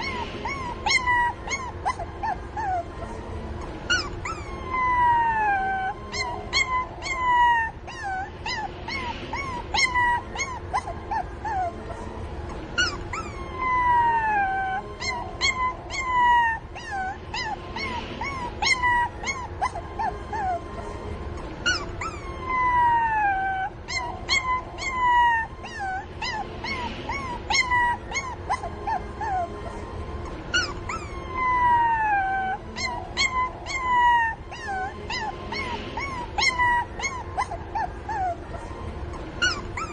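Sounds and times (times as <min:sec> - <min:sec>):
puppies whining and yelping: 0:00.0 - 0:39.9.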